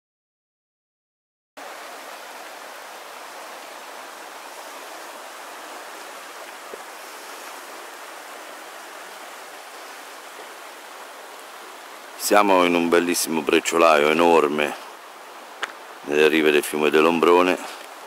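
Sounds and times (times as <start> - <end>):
river water rushing over pebbles: 1.6 - 18.0.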